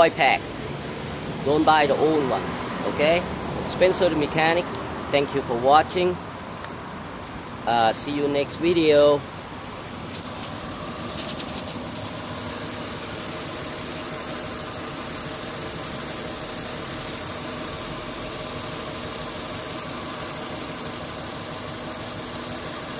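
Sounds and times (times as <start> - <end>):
misfiring car engine idling: 0.1 - 22.9.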